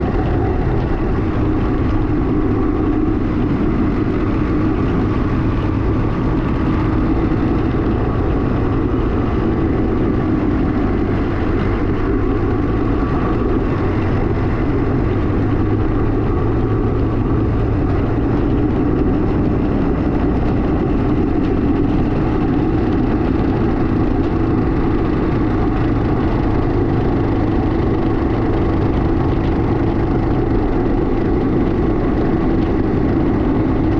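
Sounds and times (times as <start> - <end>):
two-stroke engine running: 0.0 - 33.9.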